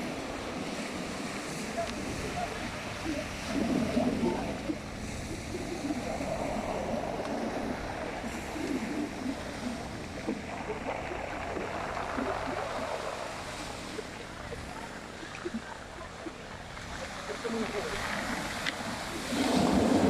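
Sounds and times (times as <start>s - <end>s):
sea water washing on shore: 0.0s - 20.0s.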